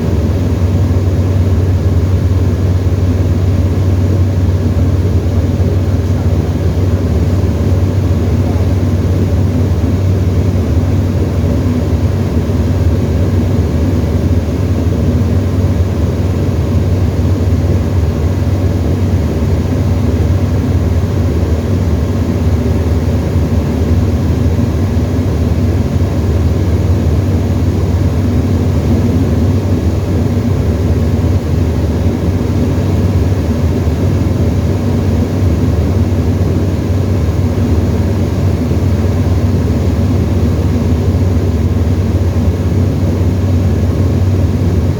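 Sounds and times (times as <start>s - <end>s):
small plane engine droning: 0.0s - 44.9s.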